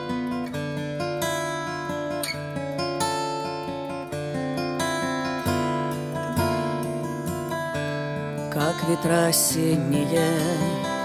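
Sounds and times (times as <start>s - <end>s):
acoustic guitar strumming and picking: 0.0s - 11.0s.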